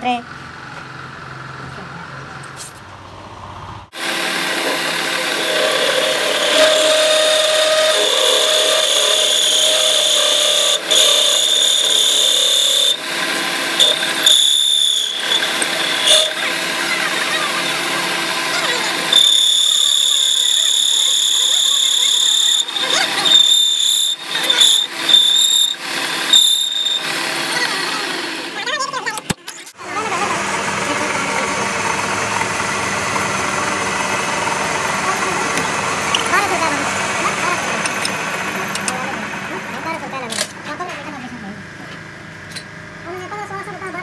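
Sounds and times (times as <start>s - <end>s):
metal lathe cutting steel: 3.9s - 40.6s.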